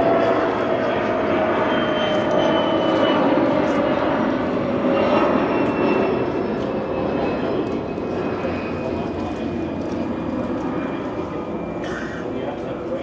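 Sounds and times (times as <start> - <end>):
aircraft engine droning overhead: 0.0 - 13.0.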